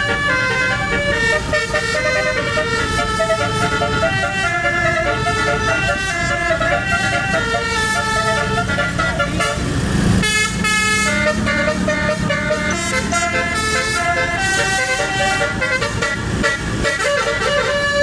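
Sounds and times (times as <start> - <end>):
multi-note bus horn tune: 0.0 - 18.0.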